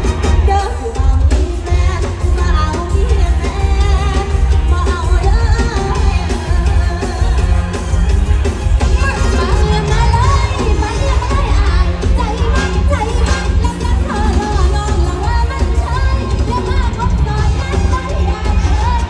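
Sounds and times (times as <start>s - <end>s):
woman singing into a microphone: 0.0s - 7.7s, 8.9s - 19.0s
amplified band music with bass beat: 0.0s - 19.0s.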